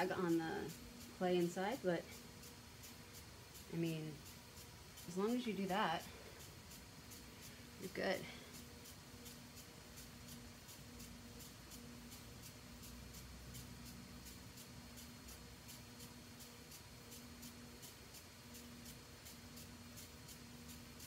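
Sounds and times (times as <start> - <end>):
light ticking: 0.0 - 21.0
potter's wheel humming: 0.0 - 21.0.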